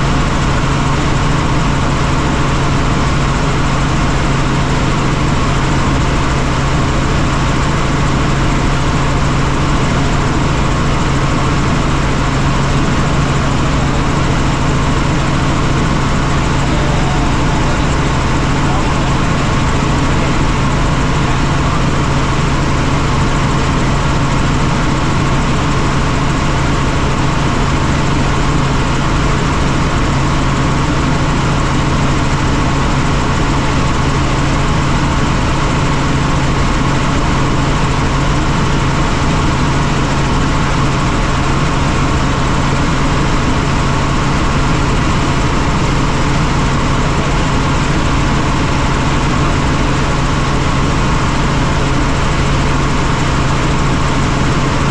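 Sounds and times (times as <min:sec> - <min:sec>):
helicopter engine and rotors: 0:00.0 - 0:54.9.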